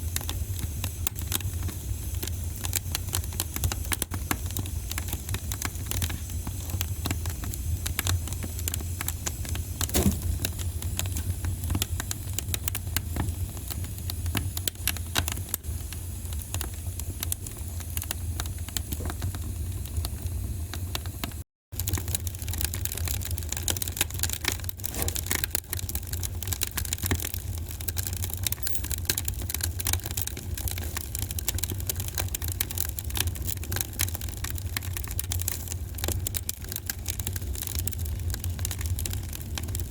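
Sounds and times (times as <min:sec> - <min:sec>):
fire pops and snaps: 0:00.0 - 0:39.9
low fire rumble: 0:00.0 - 0:39.9.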